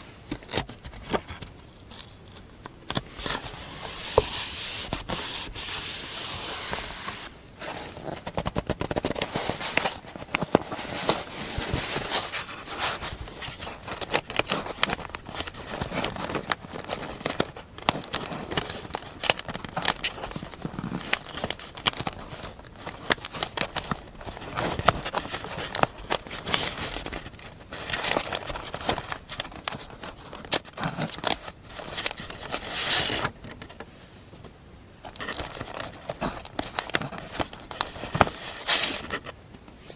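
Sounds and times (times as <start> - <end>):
paper rustling and crinkling: 0.0 - 33.9, 35.0 - 39.9.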